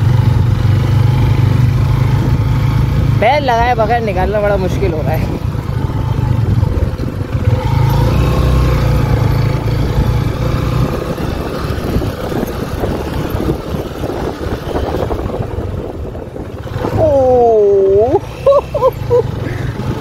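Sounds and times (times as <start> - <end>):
motorcycle engine labouring: 0.0 - 20.0.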